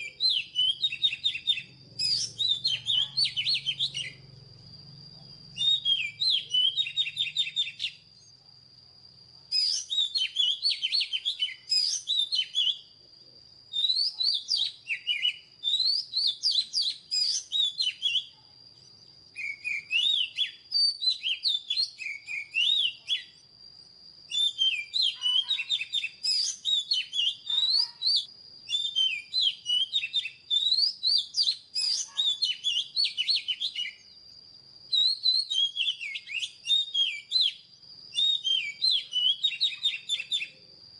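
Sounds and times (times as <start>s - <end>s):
bird singing whistled phrases: 0.0s - 4.3s, 5.4s - 8.4s, 9.5s - 12.9s, 13.7s - 23.6s, 24.3s - 34.3s, 34.9s - 40.7s.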